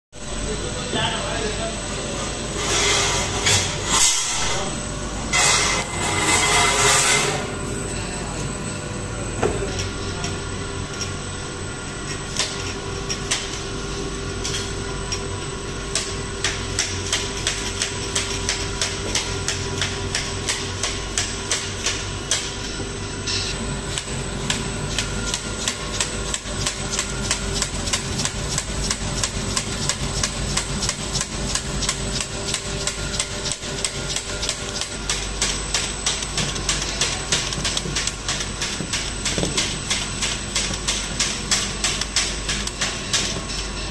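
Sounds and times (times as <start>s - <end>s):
steady machine hum: 0.2s - 43.9s.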